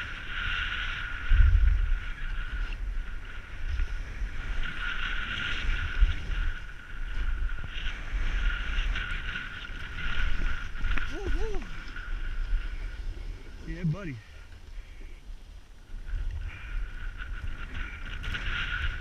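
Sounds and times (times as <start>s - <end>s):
snowboard sliding through powder: 0.0s - 19.0s
wind buffeting microphone: 0.0s - 19.0s.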